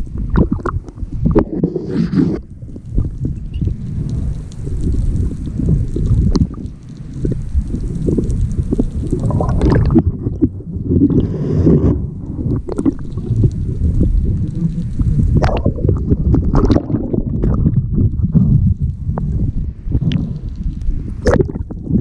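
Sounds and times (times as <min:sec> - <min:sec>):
underwater rumble and gurgling: 0:00.0 - 0:22.0.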